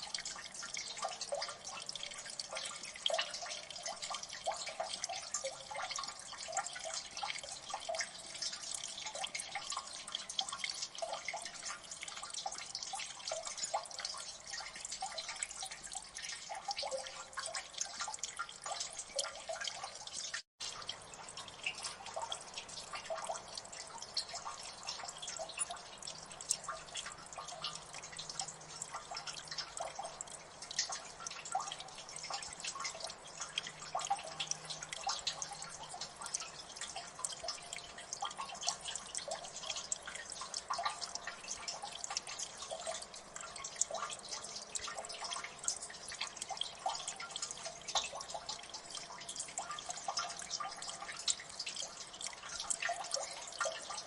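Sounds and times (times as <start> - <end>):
faint running water: 0.0 - 54.0
water drops dripping: 0.0 - 54.0.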